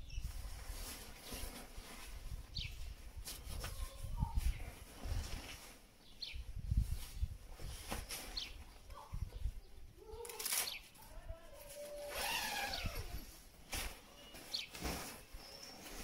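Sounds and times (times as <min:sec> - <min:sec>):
sleeping bag rustling: 0:00.1 - 0:08.9, 0:11.6 - 0:16.0.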